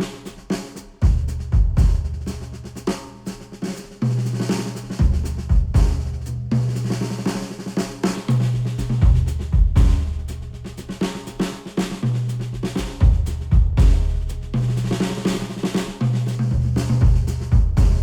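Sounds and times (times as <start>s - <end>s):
drum kit: 0.0s - 18.0s.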